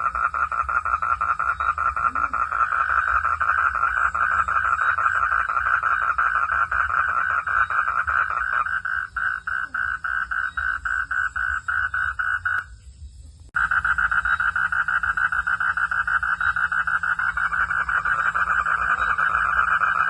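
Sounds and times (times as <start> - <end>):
frog calling: 0.0 - 12.8, 13.6 - 20.0.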